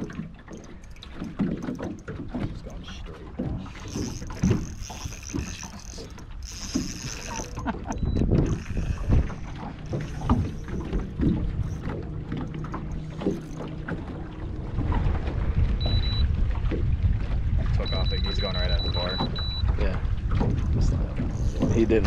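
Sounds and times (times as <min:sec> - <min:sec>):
low steady hum: 0:00.0 - 0:22.0
waves slapping against boat hull: 0:00.0 - 0:22.0
wind on microphone: 0:03.4 - 0:22.0.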